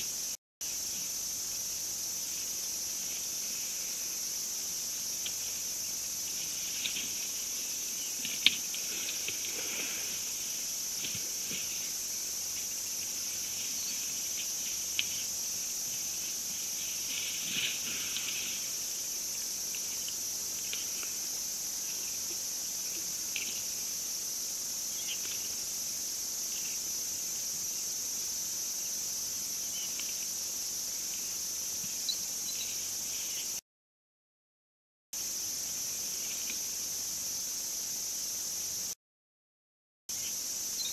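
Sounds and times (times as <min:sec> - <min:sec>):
crickets chirping: 0:00.0 - 0:33.6, 0:35.2 - 0:39.0, 0:40.1 - 0:40.9.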